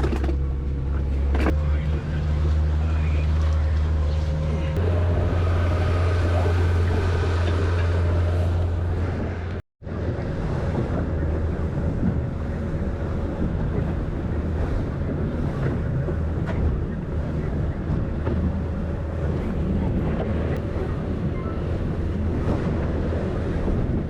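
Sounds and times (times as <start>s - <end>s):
boat engine humming: 0.0s - 24.0s
waves washing against hull: 0.0s - 24.0s
wind buffeting microphone: 0.0s - 24.0s.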